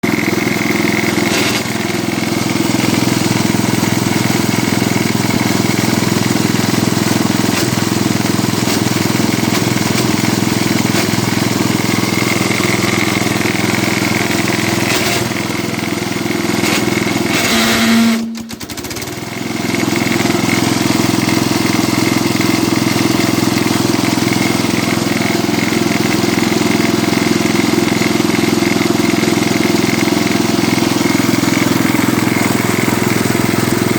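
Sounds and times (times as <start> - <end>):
garden tractor engine running: 0.0 - 33.9.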